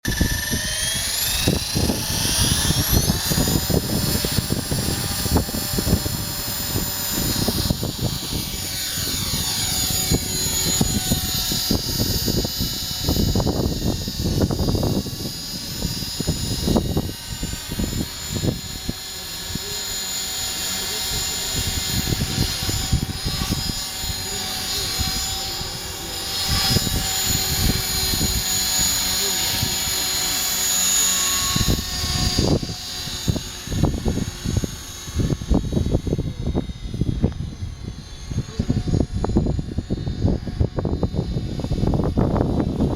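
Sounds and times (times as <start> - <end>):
gusty rumbling: 0.0 - 42.9
rc helicopter high whine: 0.0 - 42.9
wind buffeting microphone: 0.0 - 42.9.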